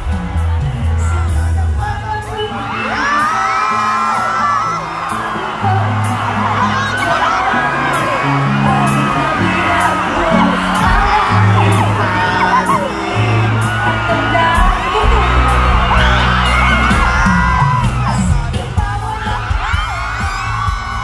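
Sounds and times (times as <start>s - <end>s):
crowd whooping and shouting: 0.0s - 21.0s
live pop song: 0.0s - 21.0s.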